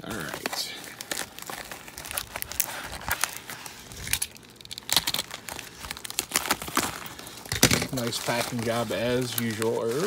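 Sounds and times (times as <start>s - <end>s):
bubble mailer crinkling: 0.0s - 10.0s.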